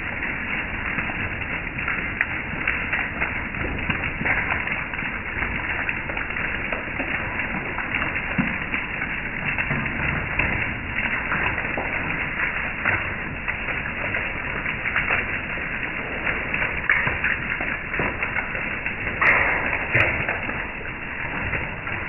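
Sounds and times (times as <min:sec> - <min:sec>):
hail pelting deck and metal furniture: 0:00.0 - 0:22.0
rushing hiss of falling rain: 0:00.0 - 0:22.0.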